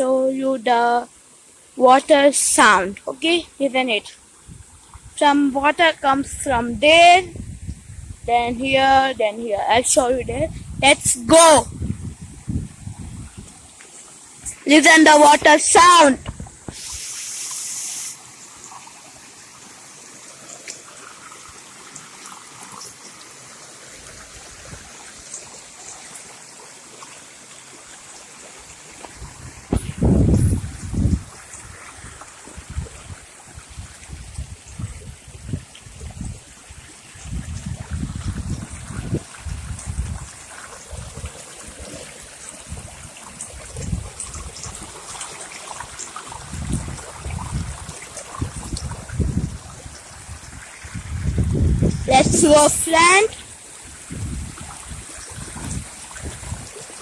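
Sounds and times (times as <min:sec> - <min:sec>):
faint water splashes: 0:00.0 - 0:57.0
stream water trickling: 0:00.0 - 0:57.0.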